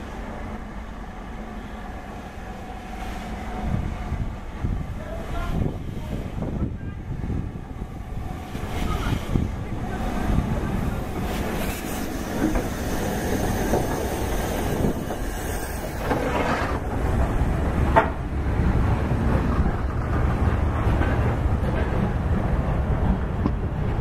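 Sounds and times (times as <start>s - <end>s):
steam train wheels rumbling on rails: 0.0s - 24.0s.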